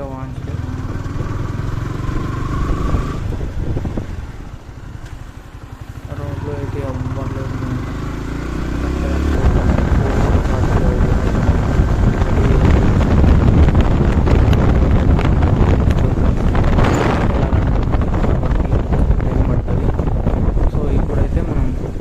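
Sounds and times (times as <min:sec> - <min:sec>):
road and engine noise: 0:00.0 - 0:22.0
wind buffeting microphone: 0:00.0 - 0:22.0.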